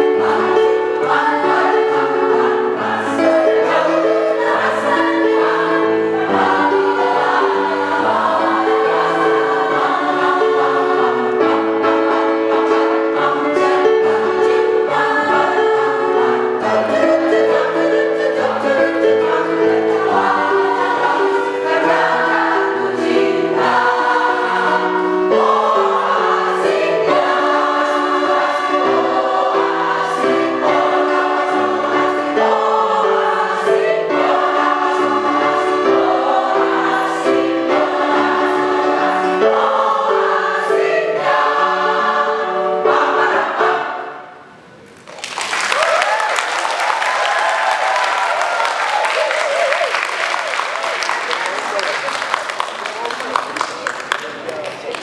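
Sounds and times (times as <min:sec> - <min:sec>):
women's choir singing: 0:00.0 - 0:44.6.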